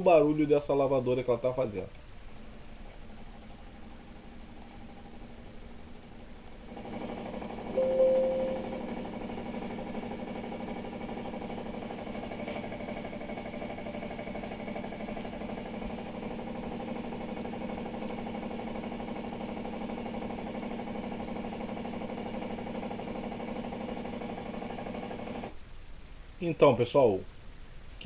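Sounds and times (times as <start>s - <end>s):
washing machine spin hum: 0.0s - 28.0s.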